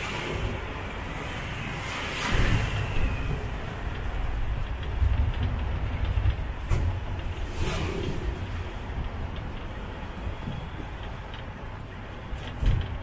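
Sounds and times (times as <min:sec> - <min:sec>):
engine and road rumble: 0:00.0 - 0:13.0
traffic: 0:00.0 - 0:13.0
wind: 0:00.0 - 0:13.0.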